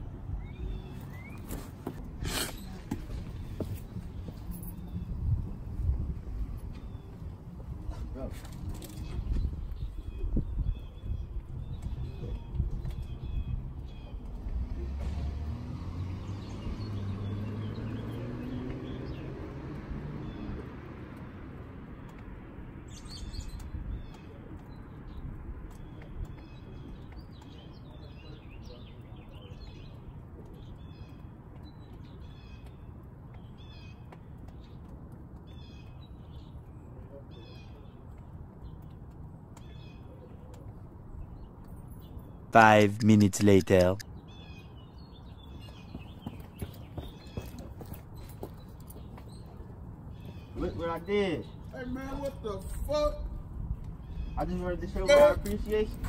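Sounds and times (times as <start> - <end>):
small birds chirping: 0.0 - 2.0, 2.6 - 15.0, 15.9 - 42.5, 43.7 - 56.0.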